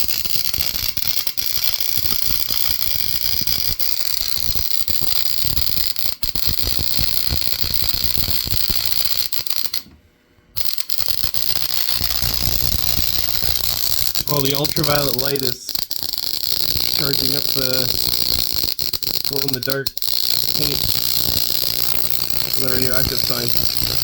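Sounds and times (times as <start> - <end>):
spark gap crackle and buzz: 0.0 - 9.9, 10.6 - 24.0.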